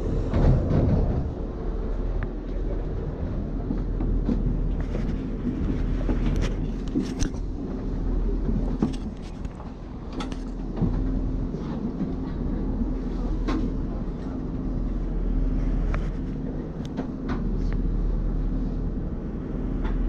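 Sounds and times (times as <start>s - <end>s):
train low rumble: 0.0s - 20.0s.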